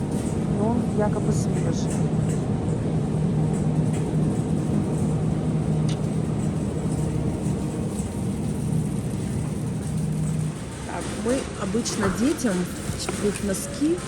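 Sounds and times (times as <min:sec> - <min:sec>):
hum of store machinery: 0:00.0 - 0:14.0.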